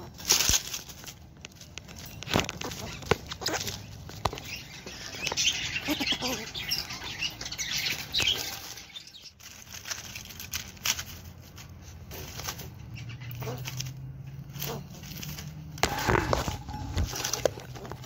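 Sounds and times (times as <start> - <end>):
claws and twigs clicking: 0.0 - 18.0
dry leaves rustling and crackling: 0.0 - 18.0.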